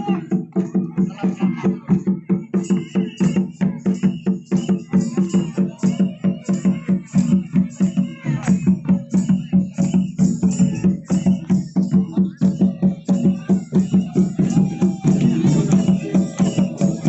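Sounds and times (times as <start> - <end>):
hand drums beating fast: 0.0 - 17.0
voices singing: 0.0 - 17.0.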